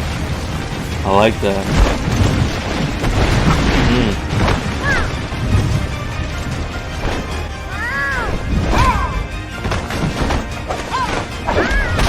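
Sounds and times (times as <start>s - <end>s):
background music: 0.0s - 12.0s
hits and crashes: 0.0s - 12.0s.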